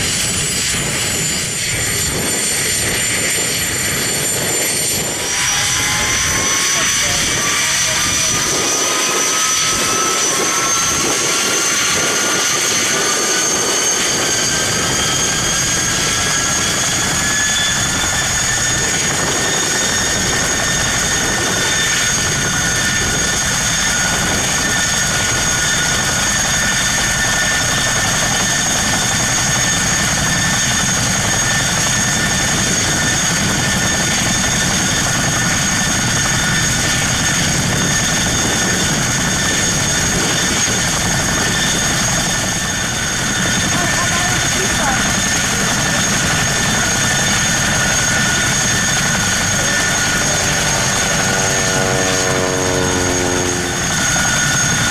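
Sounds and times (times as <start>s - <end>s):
helicopter rotors: 0.0s - 54.9s
turbine engines whining: 0.0s - 54.9s.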